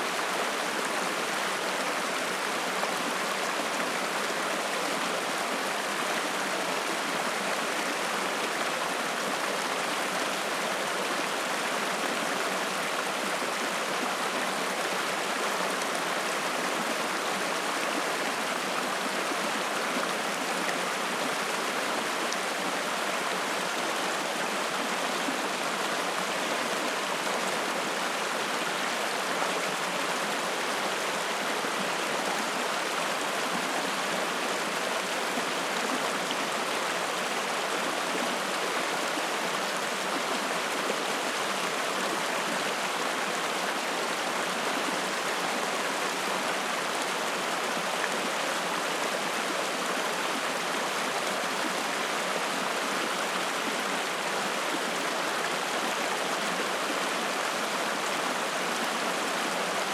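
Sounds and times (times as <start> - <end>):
mountain stream flowing and splashing: 0.0 - 59.9.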